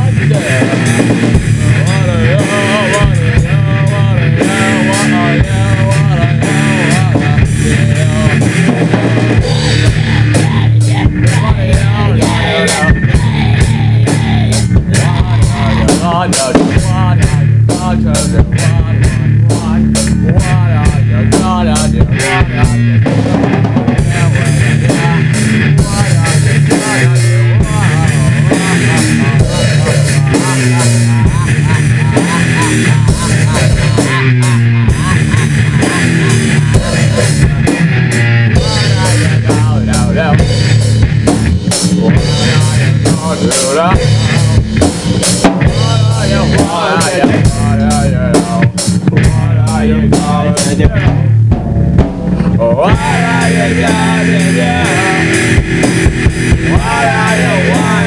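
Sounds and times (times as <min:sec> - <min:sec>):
heavy metal music: 0:00.0 - 0:58.0
rapid drum hits: 0:00.0 - 0:58.0.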